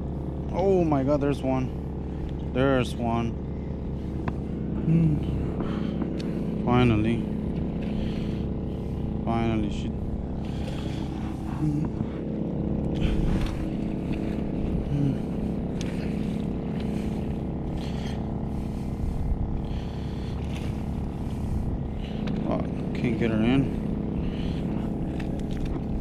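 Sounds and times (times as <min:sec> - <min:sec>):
generator engine hum: 0:00.0 - 0:26.0.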